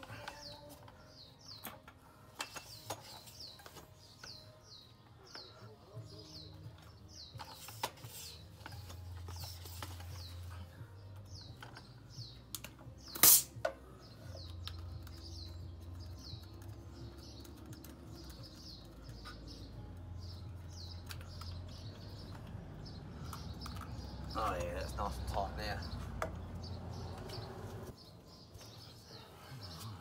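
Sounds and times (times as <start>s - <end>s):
small bird chirping: 0.1s - 30.0s.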